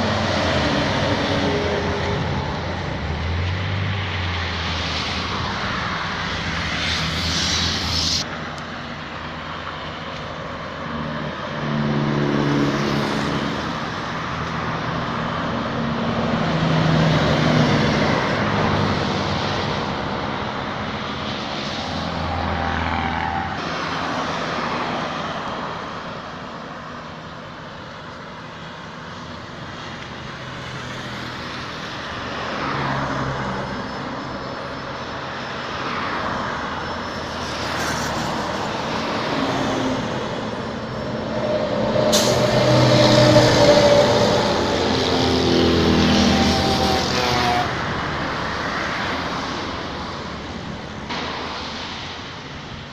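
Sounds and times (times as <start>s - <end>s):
trucks and buses passing: 0.0s - 52.9s.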